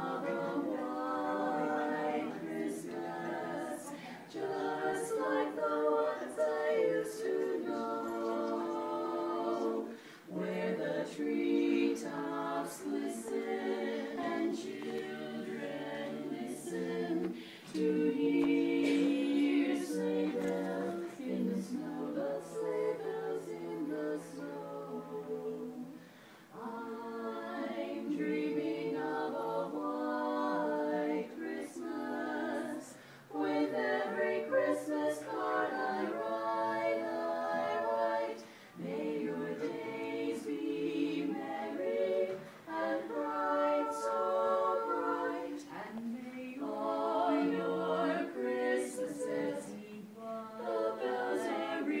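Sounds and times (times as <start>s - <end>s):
women singing a cappella harmony: 0.0s - 52.0s.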